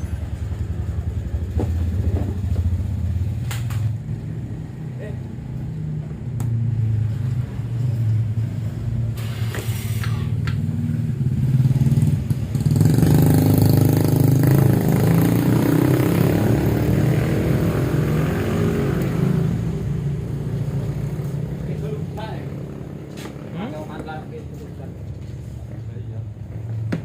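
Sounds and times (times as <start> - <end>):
scooter engine idling and revving: 0.0 - 27.0.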